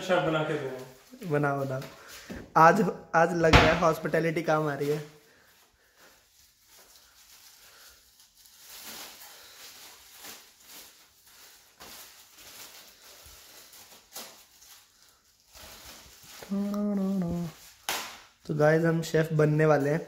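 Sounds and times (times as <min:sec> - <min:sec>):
plastic bag rustling: 0:00.0 - 0:02.8, 0:03.7 - 0:20.0.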